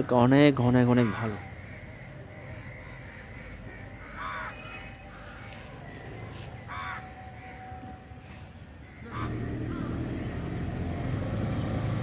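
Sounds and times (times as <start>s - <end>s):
crow cawing: 0.6s - 10.3s.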